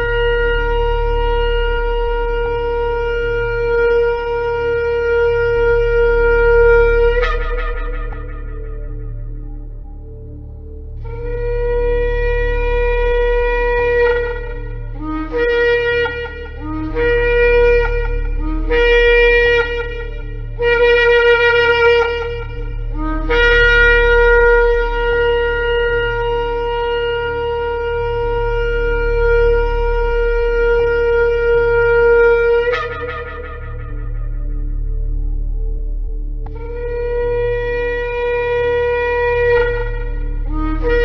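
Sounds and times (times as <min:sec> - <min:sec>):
shofar blasts: 0:00.0 - 0:41.0.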